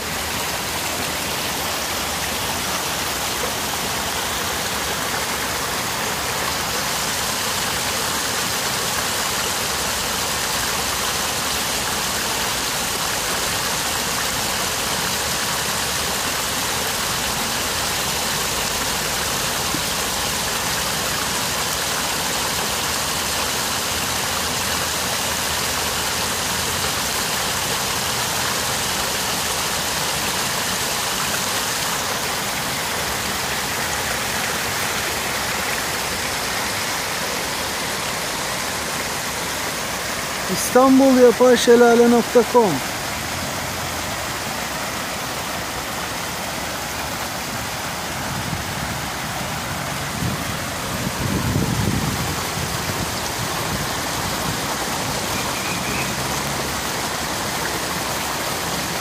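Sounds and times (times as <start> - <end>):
waterfall cascading over rocks: 0.0 - 59.0.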